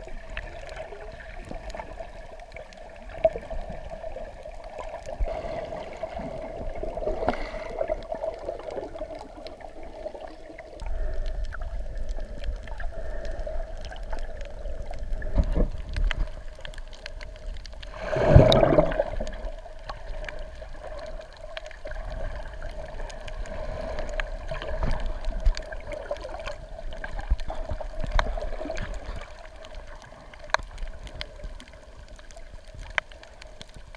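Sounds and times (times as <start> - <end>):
water sloshing and gurgling underwater: 0.0 - 33.9.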